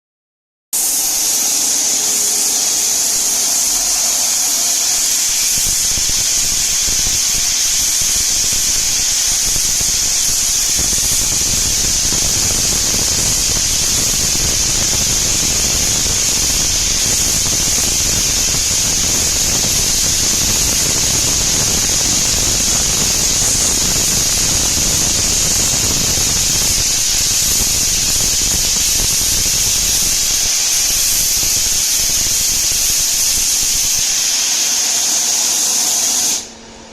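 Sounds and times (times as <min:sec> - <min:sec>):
machine high-pitched whine: 0:00.8 - 0:36.9
low machine rumble: 0:03.2 - 0:34.0.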